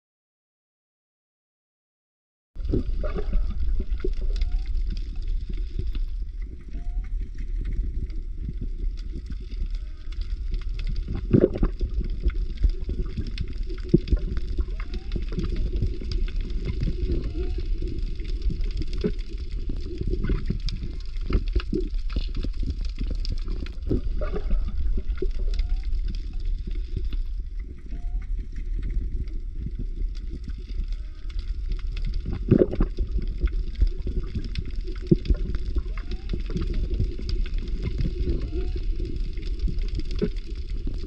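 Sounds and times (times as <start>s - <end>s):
low underwater rumble: 2.6s - 41.0s
underwater clicks and bubbling: 2.6s - 41.0s.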